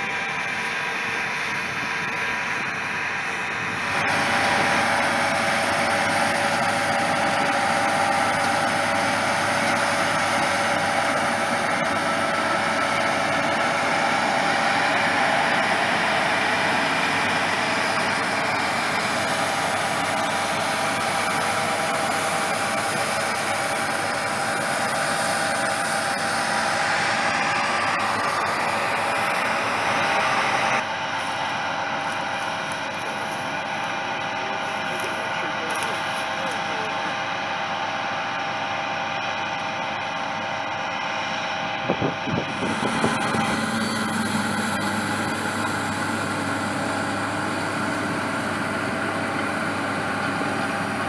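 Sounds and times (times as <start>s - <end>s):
combine harvester drone: 0.0s - 51.0s.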